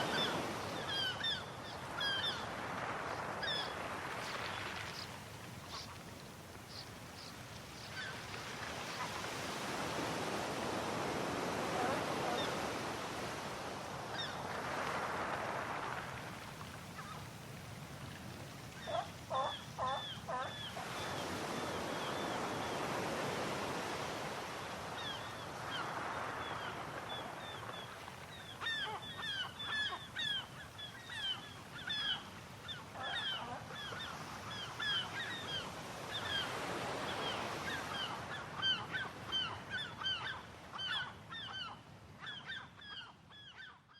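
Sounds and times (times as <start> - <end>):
sea waves washing in: 0.0 - 40.8.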